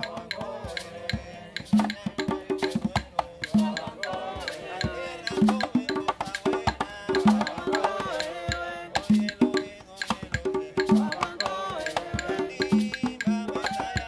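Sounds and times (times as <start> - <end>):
hand drums: 0.0 - 14.0.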